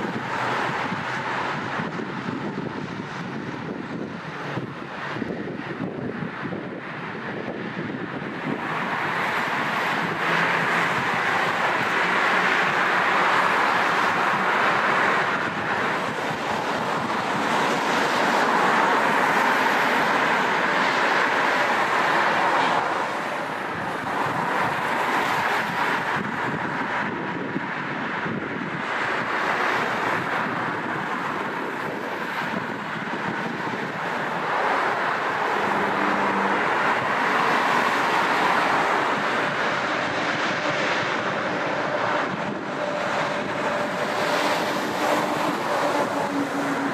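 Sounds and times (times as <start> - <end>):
jet engines roaring: 0.0 - 46.9
wind buffeting microphone: 0.0 - 46.9.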